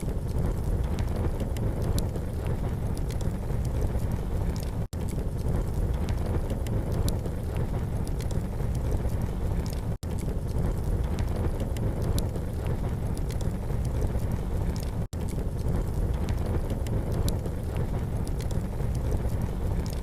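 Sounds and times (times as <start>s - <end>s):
campfire crackling and popping: 0.0s - 20.0s
low rumble: 0.0s - 20.0s.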